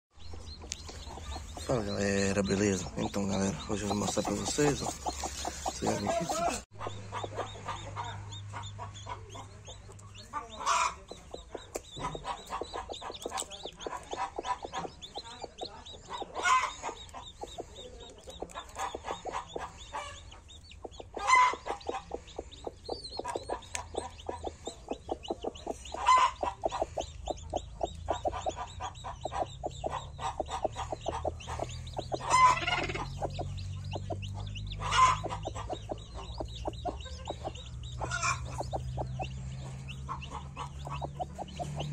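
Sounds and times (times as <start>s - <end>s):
chickens clucking: 0.2s - 41.9s.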